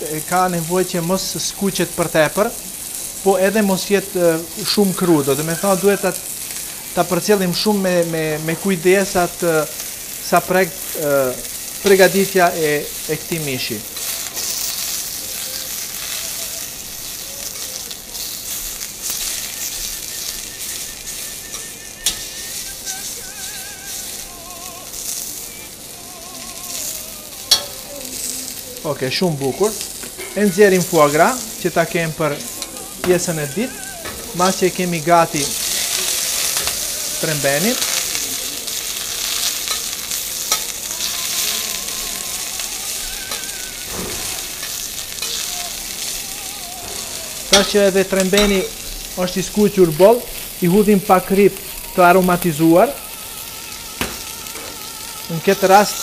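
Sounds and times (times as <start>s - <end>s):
meat sizzling in oil: 0.0s - 56.0s.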